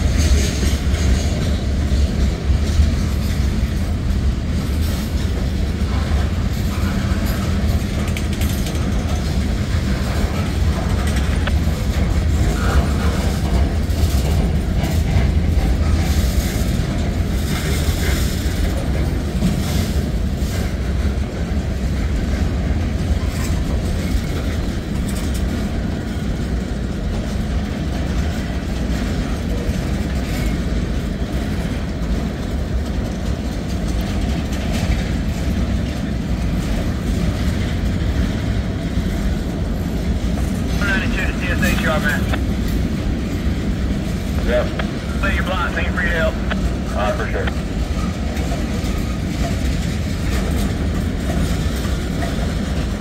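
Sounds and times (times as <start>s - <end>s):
wheels clattering over rail joints: 0.0s - 40.8s, 47.8s - 53.0s
freight train wheels rumbling: 0.0s - 53.0s.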